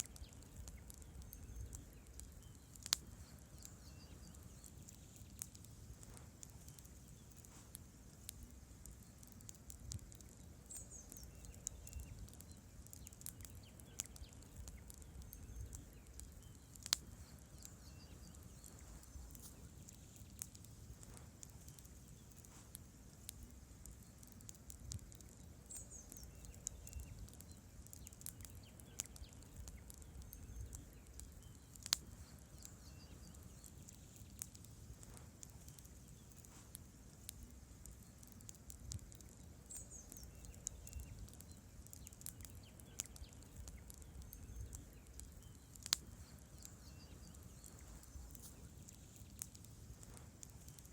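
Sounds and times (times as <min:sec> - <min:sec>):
bird chirping: 0:00.0 - 0:07.7, 0:08.5 - 0:22.7, 0:23.8 - 0:36.7, 0:37.8 - 0:50.9
campfire crackling and popping: 0:00.0 - 0:50.9.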